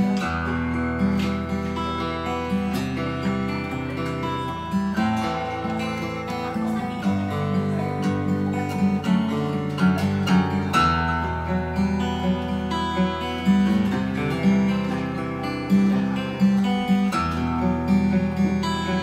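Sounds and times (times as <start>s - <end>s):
fingerpicked acoustic guitar chords: 0.0s - 19.0s.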